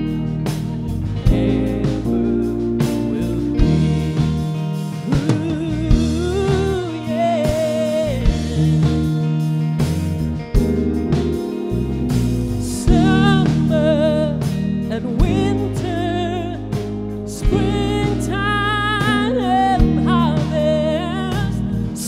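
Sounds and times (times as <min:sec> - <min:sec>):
drum kit: 0:00.0 - 0:22.0
guitar: 0:00.0 - 0:22.0
sung melody: 0:00.0 - 0:22.0
worship band playing: 0:00.0 - 0:22.0.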